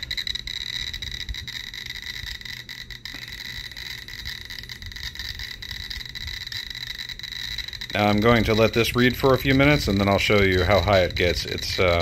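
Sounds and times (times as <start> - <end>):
faint high whine: 0.0 - 12.0
geiger counter clicking rapidly: 0.0 - 12.0.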